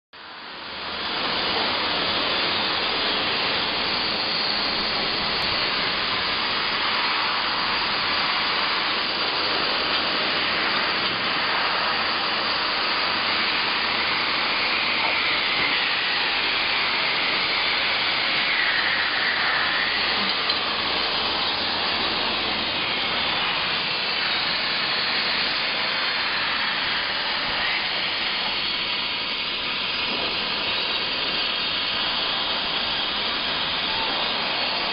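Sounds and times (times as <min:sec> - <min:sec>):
gas burner flames hissing: 0:00.2 - 0:34.9.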